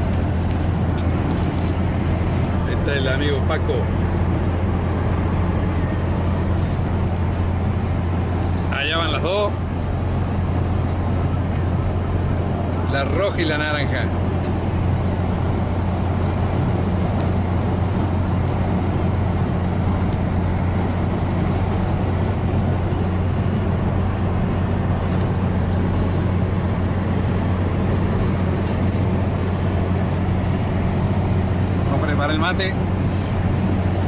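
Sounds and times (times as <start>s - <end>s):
road noise: 0.0s - 34.0s
vehicle engine drone: 0.0s - 34.0s.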